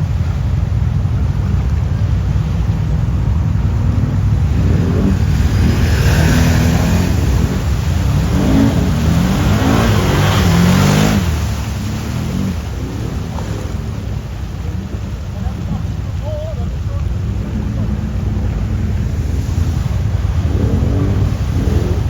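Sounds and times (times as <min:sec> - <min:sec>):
quad bike engine revving: 0:00.0 - 0:22.0.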